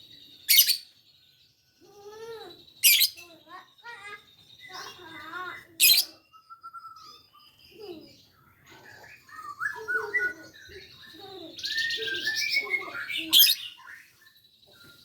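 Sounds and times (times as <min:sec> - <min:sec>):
lovebird chirping: 0:00.0 - 0:01.0, 0:02.0 - 0:14.7
buzzy bird trill: 0:00.0 - 0:14.6.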